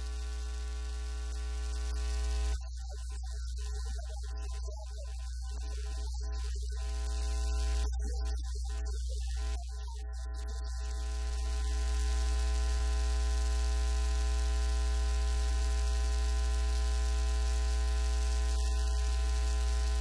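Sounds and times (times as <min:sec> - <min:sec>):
electrical hum and buzz: 0:00.0 - 0:02.7, 0:05.5 - 0:20.0.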